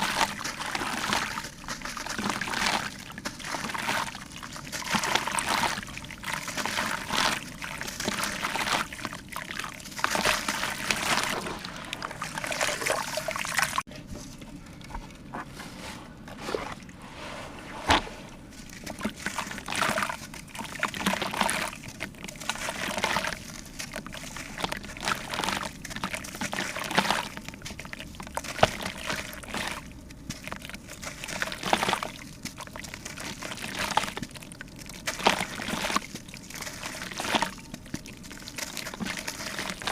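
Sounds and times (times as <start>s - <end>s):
water splashing and pouring: 0.0s - 15.2s, 15.8s - 39.9s.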